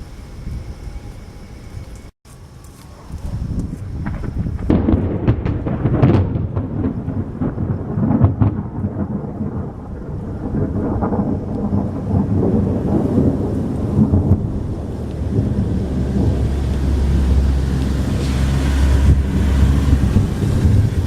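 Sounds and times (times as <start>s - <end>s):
rolling thunder: 3.1s - 21.0s
rain falling: 4.0s - 21.0s.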